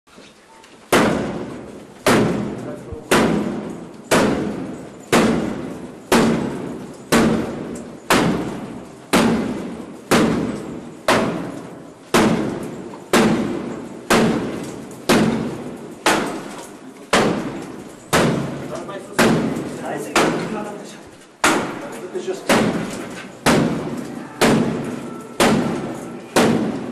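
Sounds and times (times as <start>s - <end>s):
door being battered: 0.9s - 20.7s, 21.4s - 26.9s.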